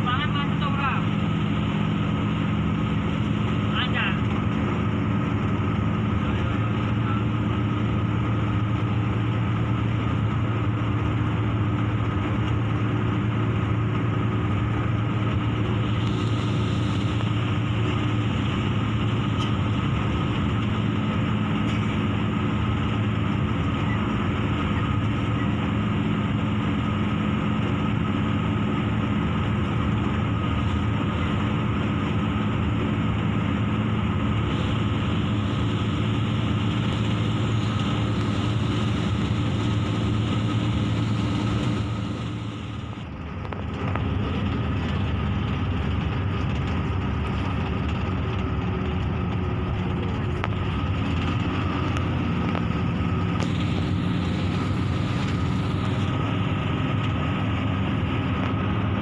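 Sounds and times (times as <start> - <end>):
bus engine drone: 0.0 - 59.0
road and tyre noise: 0.0 - 59.0.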